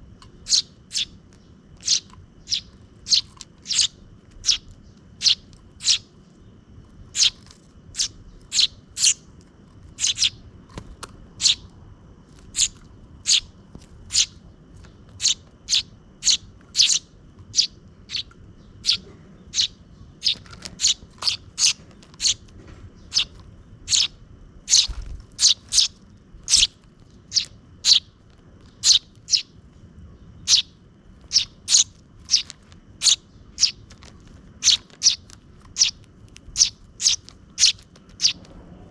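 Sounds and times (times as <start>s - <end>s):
sparrows chirping: 0.0s - 10.6s, 11.3s - 11.8s, 12.4s - 38.5s
low background rumble: 0.0s - 38.9s.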